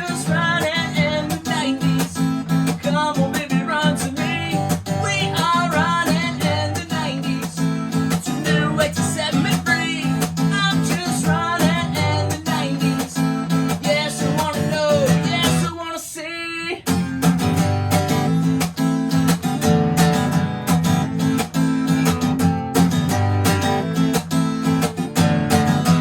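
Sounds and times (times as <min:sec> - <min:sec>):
bending guitar melody: 0:00.0 - 0:15.7, 0:16.9 - 0:26.0
strummed acoustic guitar chords: 0:00.0 - 0:15.9, 0:16.8 - 0:26.0.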